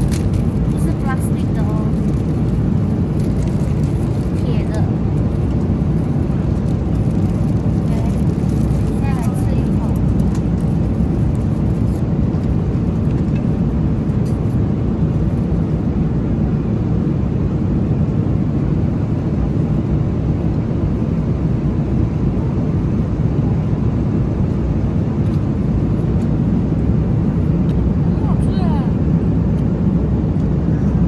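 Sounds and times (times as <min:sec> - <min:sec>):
airliner cabin roar: 0:00.0 - 0:31.0.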